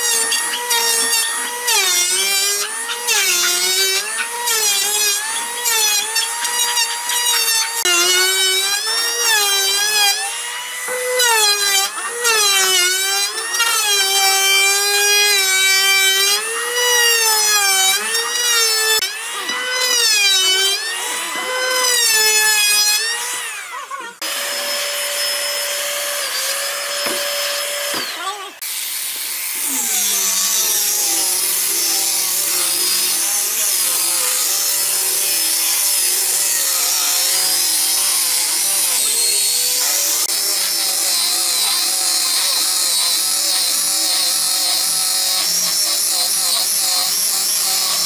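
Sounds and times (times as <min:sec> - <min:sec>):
electric planer cutting wood: 0:00.0 - 0:48.0
power tool whining without load: 0:00.0 - 0:48.0.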